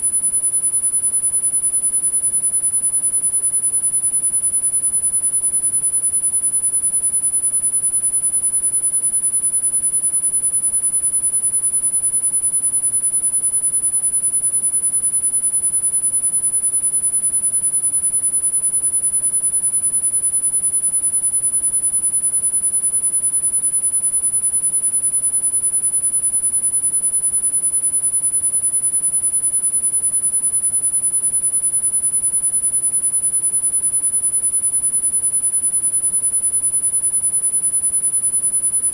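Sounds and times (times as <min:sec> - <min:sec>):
high-pitched sine tone: 0:00.0 - 0:38.9.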